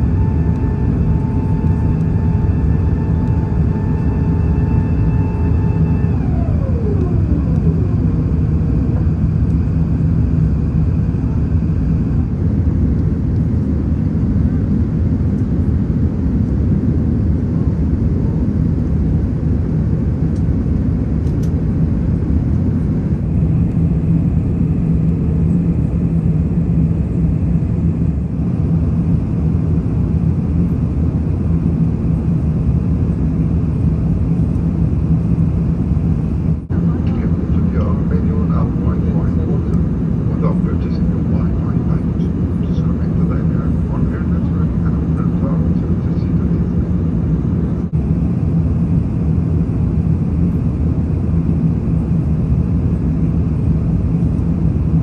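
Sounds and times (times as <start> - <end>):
faint hum: 0.0 - 55.0
jet engine roar in cabin: 0.0 - 55.0.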